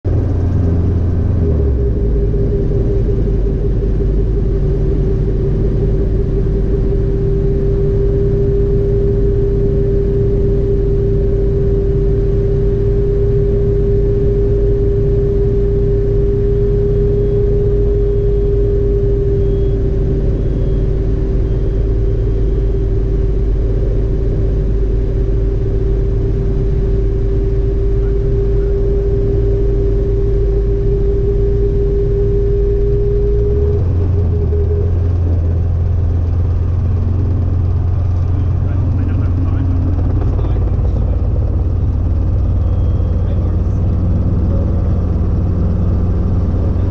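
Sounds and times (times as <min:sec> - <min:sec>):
steady whine: 0:00.0 - 0:46.9
helicopter rotor drone: 0:00.1 - 0:46.9.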